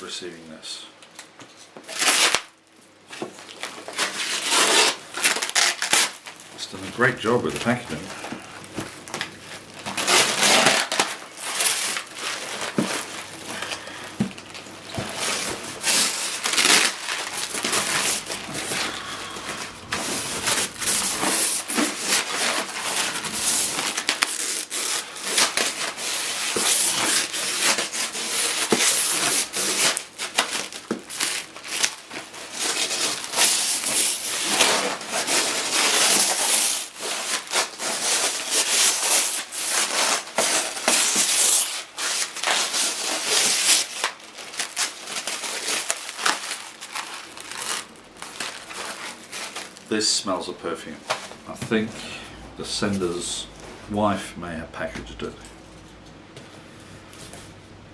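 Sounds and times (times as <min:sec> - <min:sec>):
packing material crinkling and rustling: 0:01.1 - 0:51.9.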